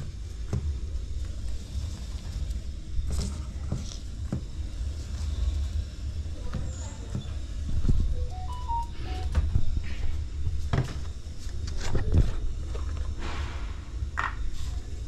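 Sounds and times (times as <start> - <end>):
gas burner rumbling: 0.0 - 8.1, 9.4 - 15.0.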